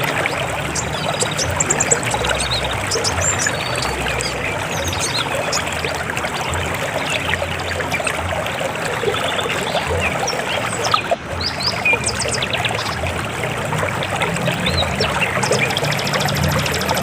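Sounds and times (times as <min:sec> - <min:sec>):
river water flowing over rocks: 0:00.0 - 0:17.0.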